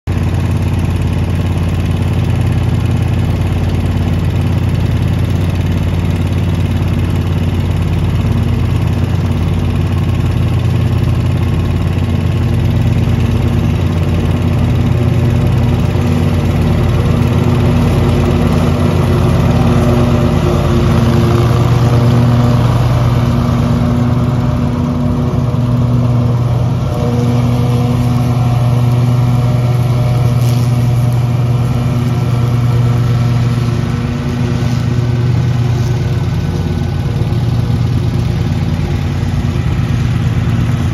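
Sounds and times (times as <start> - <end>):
riding mower engine running: 0.0 - 40.9
mower blades cutting grass: 0.1 - 40.9.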